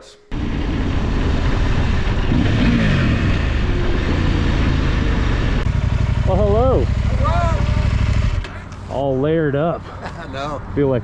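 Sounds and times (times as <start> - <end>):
motorcycle engine droning: 0.0 - 9.6.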